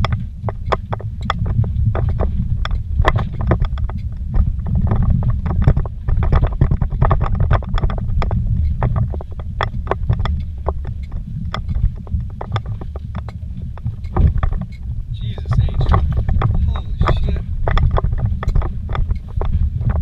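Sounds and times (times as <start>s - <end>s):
knocks and rattles over rocks: 0.0s - 20.0s
vehicle tyres rumbling on dirt trail: 0.0s - 20.0s.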